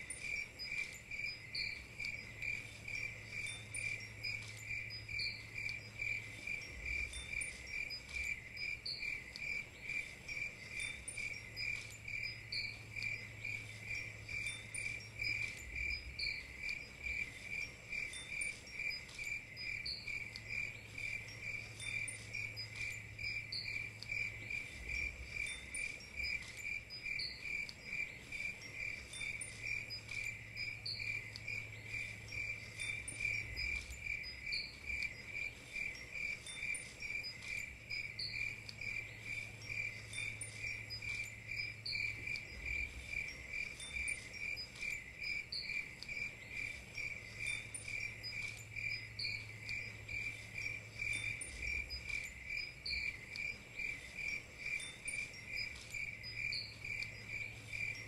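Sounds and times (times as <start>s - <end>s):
crickets chirping: 0.0s - 58.0s
higher insect chirp: 0.0s - 58.0s.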